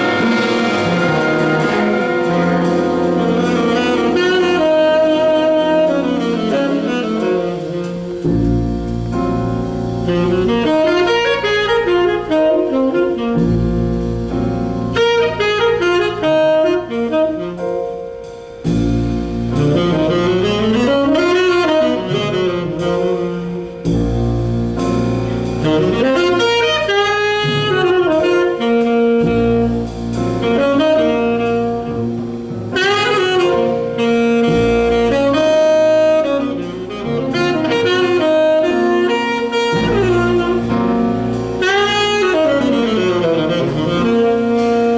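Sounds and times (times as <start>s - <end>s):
jazz orchestra backing: 0.0s - 44.9s
tenor saxophone jazz solo: 0.0s - 44.9s.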